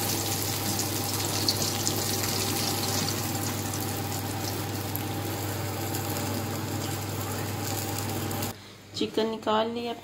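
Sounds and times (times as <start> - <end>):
deep-frying oil sizzle: 0.0 - 8.5.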